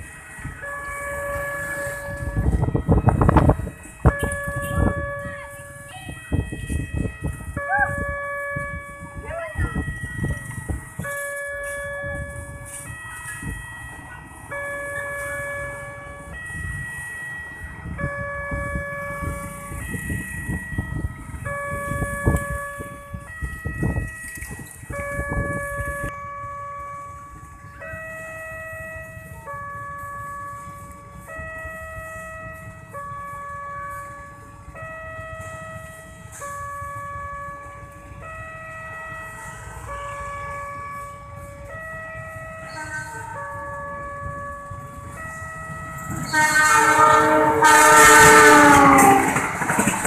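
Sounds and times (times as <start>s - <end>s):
motorbike engines: 0.0s - 50.0s
two-tone crossing siren: 0.0s - 50.0s.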